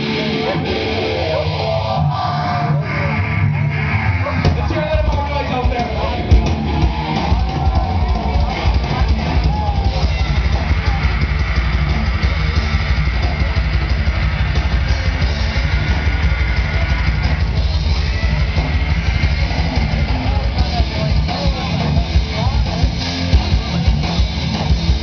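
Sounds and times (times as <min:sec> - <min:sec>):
rock band playing loudly: 0:00.0 - 0:25.0.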